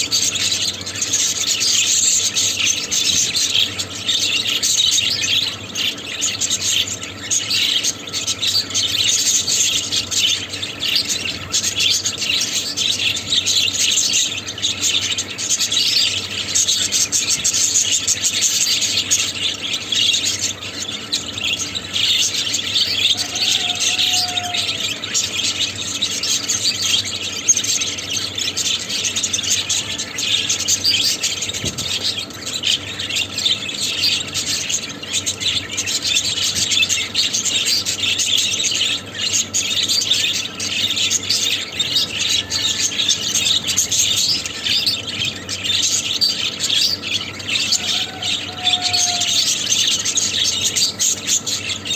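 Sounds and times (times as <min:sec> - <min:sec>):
budgerigars chattering: 0:00.0 - 0:51.9.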